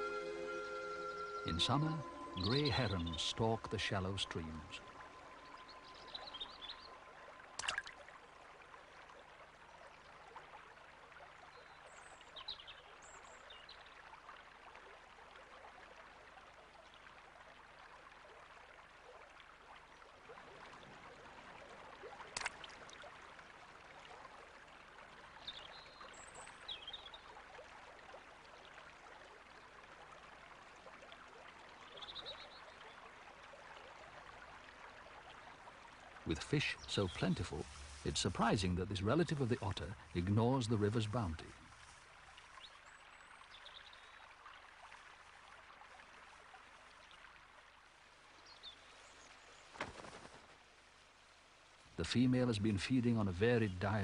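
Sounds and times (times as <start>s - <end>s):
shallow stream running: 0.0s - 54.0s.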